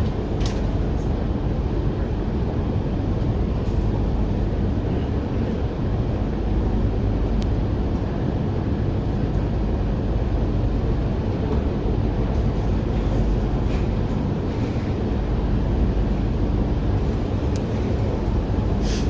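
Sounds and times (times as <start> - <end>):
air-conditioning running: 0.0 - 19.0
train carriage low rumble: 0.0 - 19.0.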